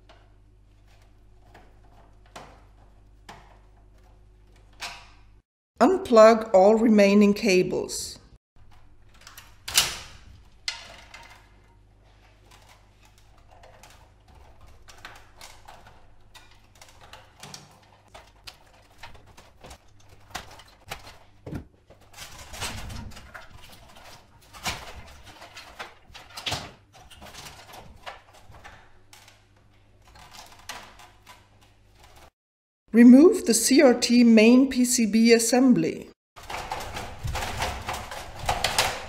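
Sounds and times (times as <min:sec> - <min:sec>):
clicks and knocks of handling wiring: 0:00.0 - 0:05.4, 0:08.6 - 0:32.3, 0:36.4 - 0:39.0.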